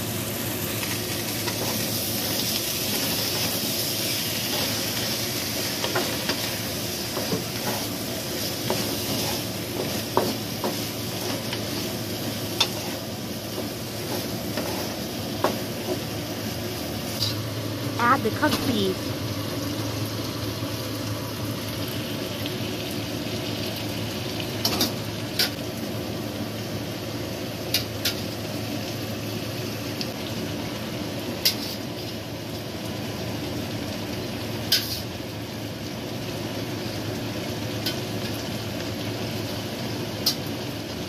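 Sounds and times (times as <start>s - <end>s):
curry sizzling in a wok: 0.0s - 41.0s.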